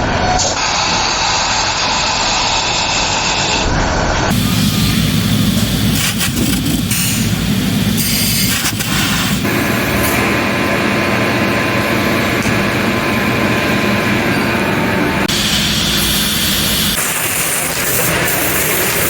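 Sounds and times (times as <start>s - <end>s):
machinery running: 0.0s - 19.0s.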